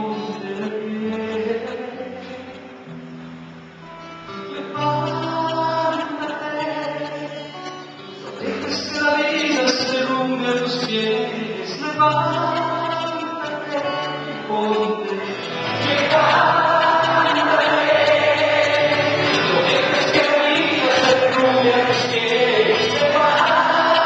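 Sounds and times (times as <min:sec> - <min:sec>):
man singing into microphone: 0:00.0 - 0:02.7, 0:04.5 - 0:24.0
acoustic guitar strumming: 0:00.0 - 0:24.0
many voices singing along: 0:04.5 - 0:24.0.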